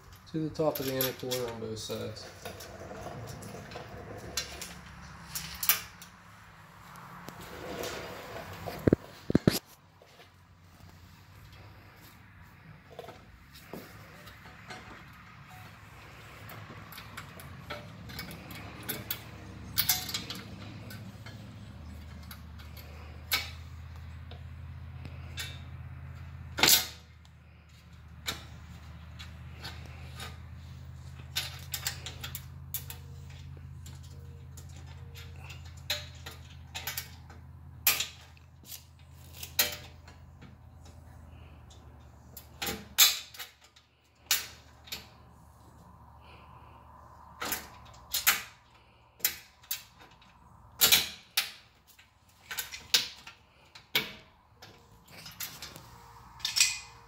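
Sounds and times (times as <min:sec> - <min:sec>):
metal hardware and tools clicking: 0:00.0 - 0:06.2, 0:12.9 - 0:40.2, 0:40.8 - 0:45.3, 0:46.2 - 0:57.0.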